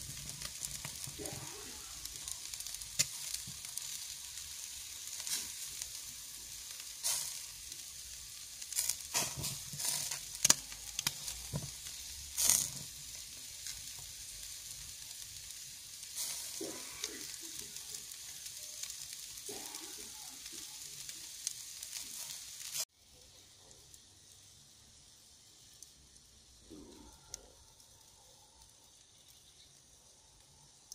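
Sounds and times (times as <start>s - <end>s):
pops and crackles: 0.0s - 22.8s, 25.7s - 29.8s
meat sizzling on grill: 0.0s - 30.9s.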